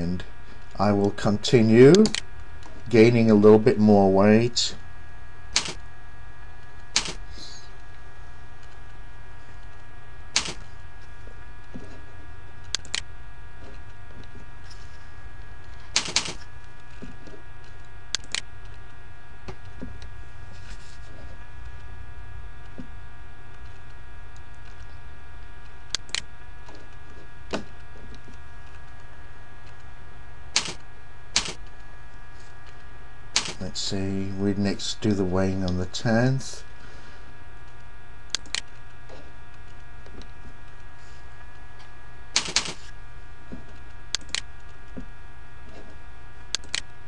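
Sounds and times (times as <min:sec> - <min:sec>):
electrical hum: 0:00.0 - 0:47.0.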